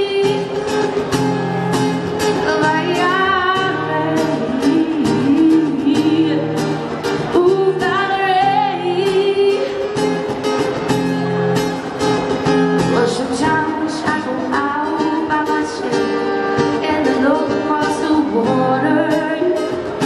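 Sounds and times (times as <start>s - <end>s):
woman singing into a microphone: 0.0s - 10.4s, 12.8s - 20.0s
guitar chords: 0.0s - 20.0s.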